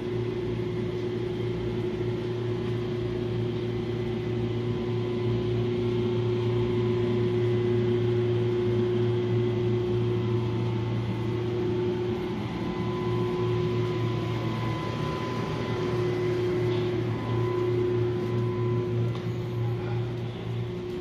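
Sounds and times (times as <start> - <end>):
machinery and ventilation drone: 0.0 - 21.0.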